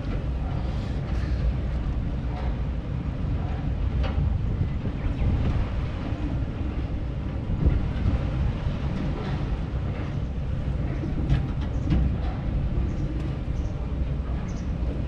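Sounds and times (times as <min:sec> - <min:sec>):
ride mechanism rumble: 0:00.0 - 0:15.0.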